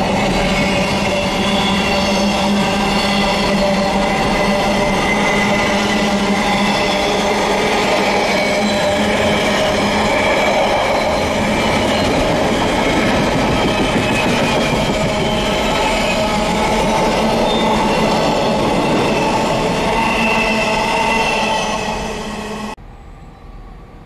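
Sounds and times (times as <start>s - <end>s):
train wheels rumbling and rattling: 0.0s - 22.1s.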